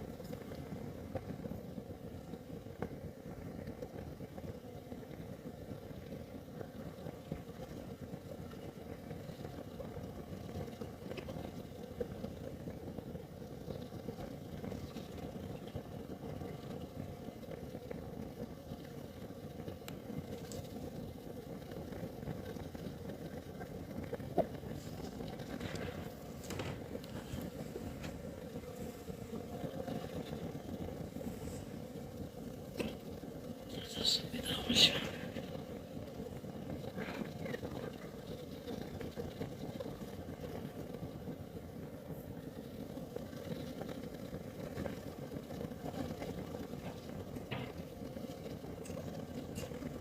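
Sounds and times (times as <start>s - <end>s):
kerosene heater flame rumbling: 0.0s - 50.0s.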